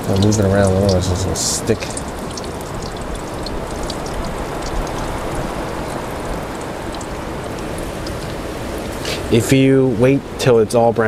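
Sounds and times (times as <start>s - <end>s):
fish frying in oil: 0.0s - 9.7s.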